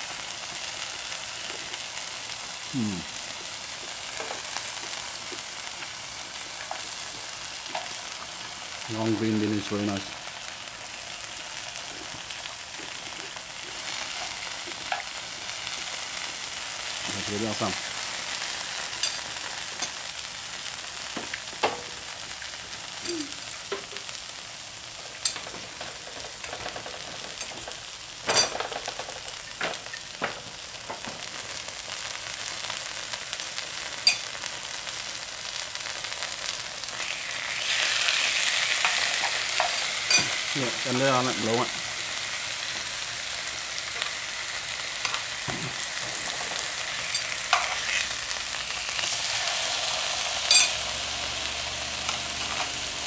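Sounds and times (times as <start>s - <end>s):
food sizzling in a pan: 0.0s - 53.0s.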